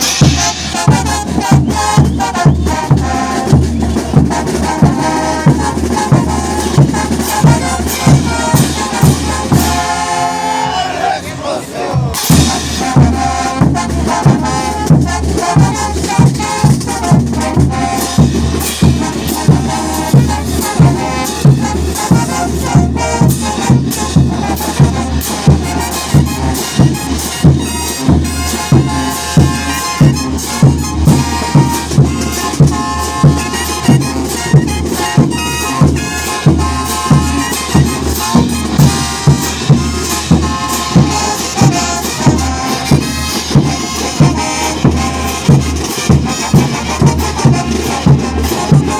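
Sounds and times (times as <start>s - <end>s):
trumpets and trombones: 0.0s - 48.9s.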